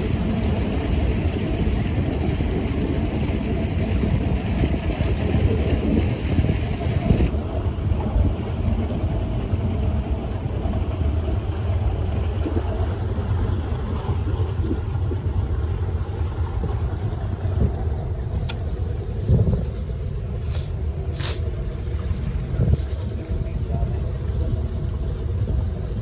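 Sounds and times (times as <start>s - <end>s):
motorboat engine rumbling: 0.0s - 26.0s
rushing wind: 0.0s - 26.0s
water noise: 0.0s - 26.0s.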